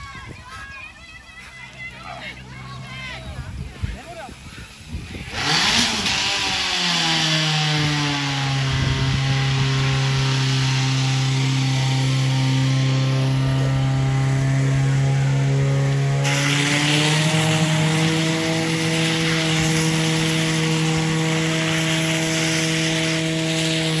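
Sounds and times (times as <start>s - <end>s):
fire pump engine running: 0.0s - 24.0s
water jets spraying: 0.0s - 24.0s.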